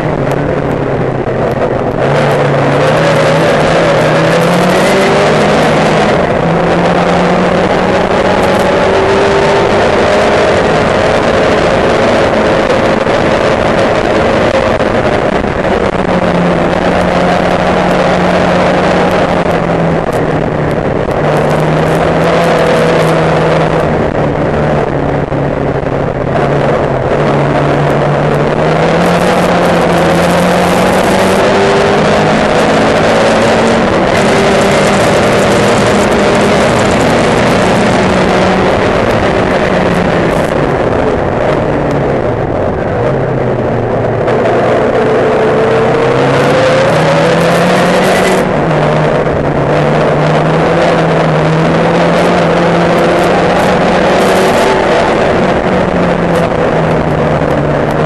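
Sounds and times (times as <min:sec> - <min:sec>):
race car engine accelerating: 0:00.0 - 0:58.0
wind and road noise: 0:00.0 - 0:58.0.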